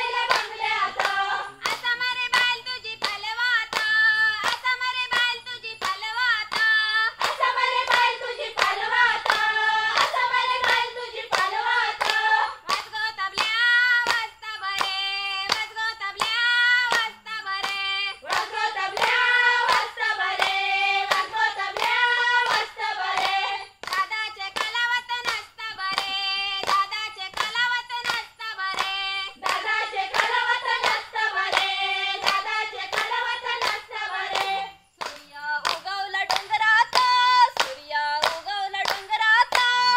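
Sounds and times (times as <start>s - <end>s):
group of women singing: 0.0s - 39.9s
hand claps: 0.0s - 39.9s.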